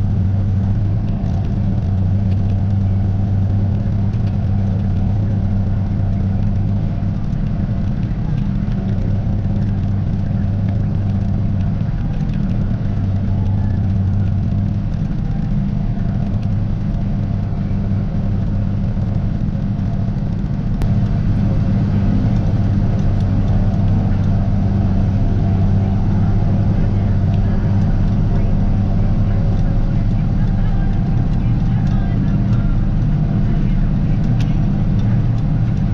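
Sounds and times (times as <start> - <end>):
tractor engine droning: 0.0 - 35.9.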